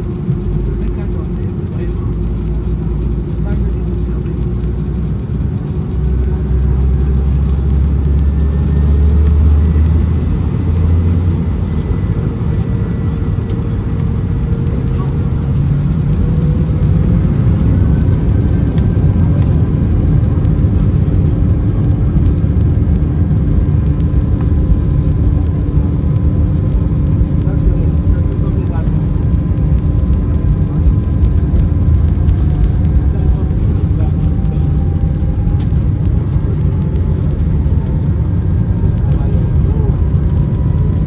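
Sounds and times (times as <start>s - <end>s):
faint rising whine: 0.0s - 41.0s
heavy low rumble: 0.0s - 41.0s
jet engines roaring at takeoff: 0.0s - 41.0s.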